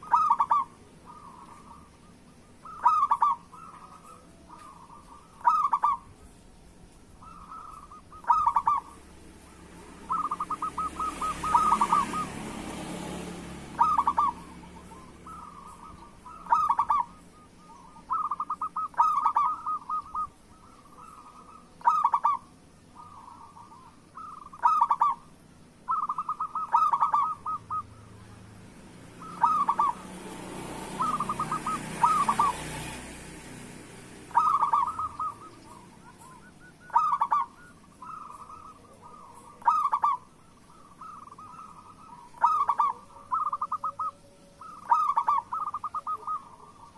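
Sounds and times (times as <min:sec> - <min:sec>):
dove cooing: 0:00.0 - 0:28.5, 0:29.1 - 0:46.9.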